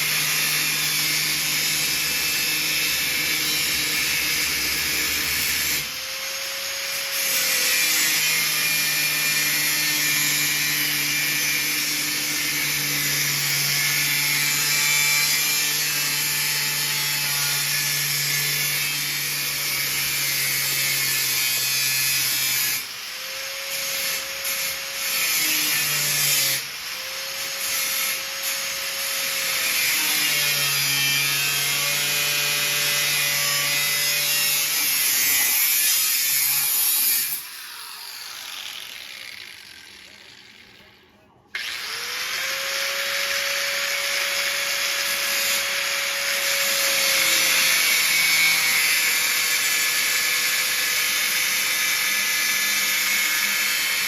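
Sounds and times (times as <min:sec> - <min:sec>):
power tool grinding steel: 0:00.0 - 0:54.0.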